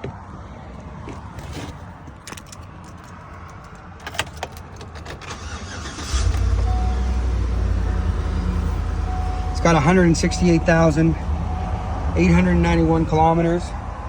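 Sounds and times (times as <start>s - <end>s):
car engine starting and idling: 1.1s - 14.0s.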